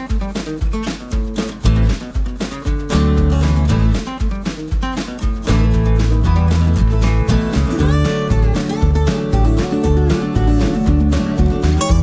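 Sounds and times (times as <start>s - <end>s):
music with beat bass and guitar: 0.0s - 12.0s.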